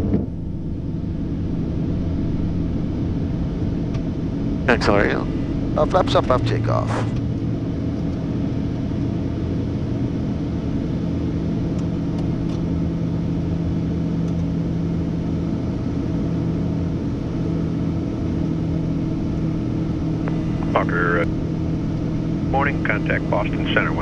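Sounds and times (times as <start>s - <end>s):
jet engines at climb power: 0.0s - 24.0s
low steady hum: 0.0s - 24.0s.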